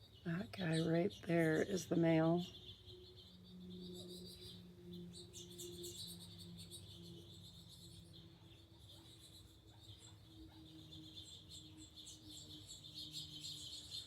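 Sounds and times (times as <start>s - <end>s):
faint low hum: 0.0s - 14.0s
small birds chirping: 0.0s - 14.0s.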